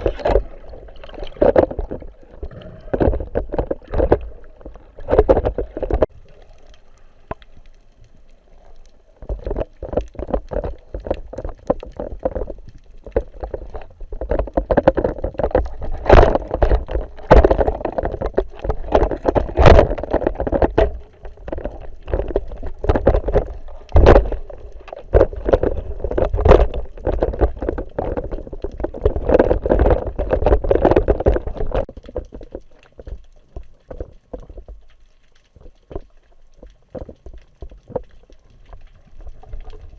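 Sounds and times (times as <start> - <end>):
muffled water sloshing: 0.0 - 39.9.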